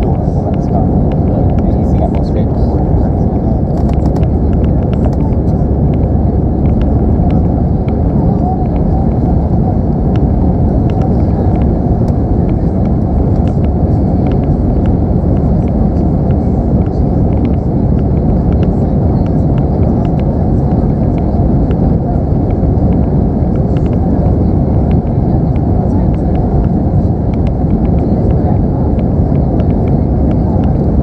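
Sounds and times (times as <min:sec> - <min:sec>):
jet engines roaring in cabin: 0:00.0 - 0:31.0.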